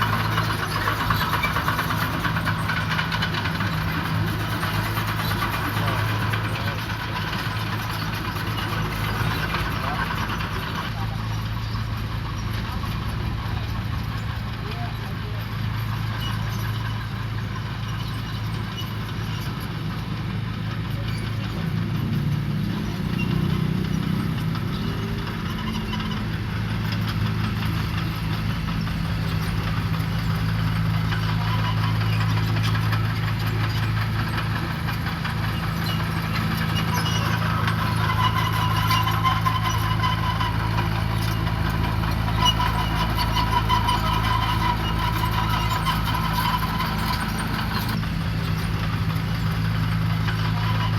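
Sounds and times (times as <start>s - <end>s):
diesel engine running: 0.0s - 50.9s
rhythmic clatter: 0.0s - 50.9s.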